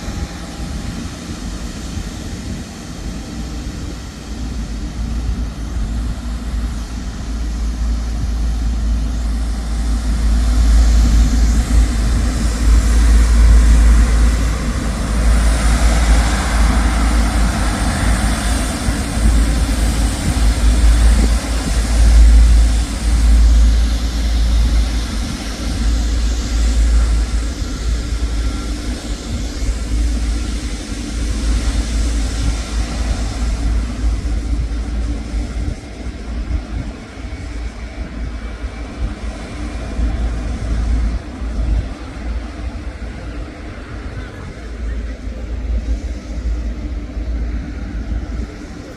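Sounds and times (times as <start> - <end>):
heavy low rumble: 0.0 - 48.9
jet airliner engine roar: 0.0 - 48.9.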